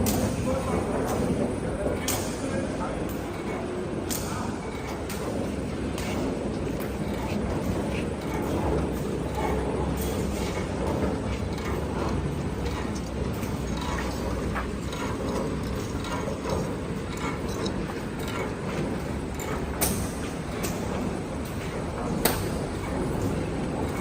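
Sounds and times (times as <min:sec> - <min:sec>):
welding machine clatter: 0:02.0 - 0:24.0
machine clicks: 0:03.1 - 0:24.0.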